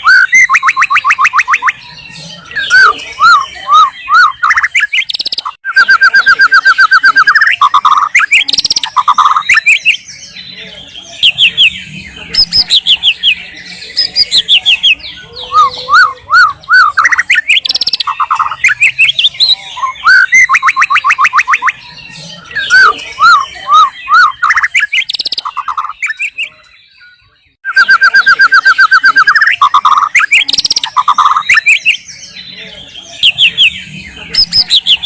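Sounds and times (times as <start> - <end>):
bird singing whistled song: 0.0 - 35.0.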